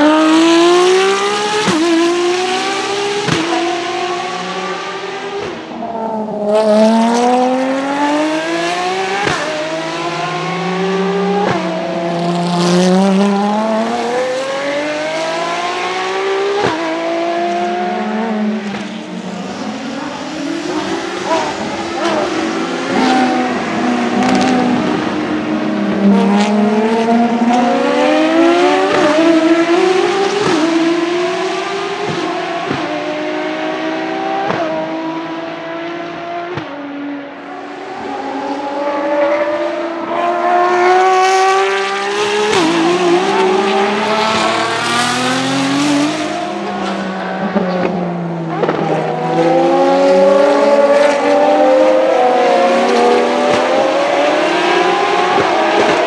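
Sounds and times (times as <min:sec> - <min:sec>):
race car engines accelerating: 0:00.0 - 0:56.0.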